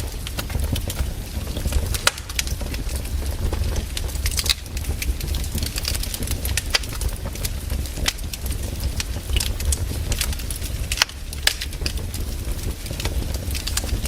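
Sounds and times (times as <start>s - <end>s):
burning logs crackling and popping: 0.0s - 14.0s
low rumble of fire: 0.0s - 14.0s.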